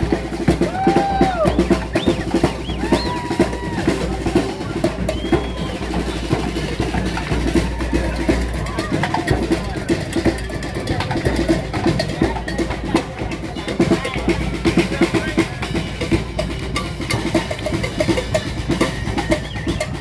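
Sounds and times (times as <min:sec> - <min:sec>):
rapid snare drum strokes: 0:00.0 - 0:20.0.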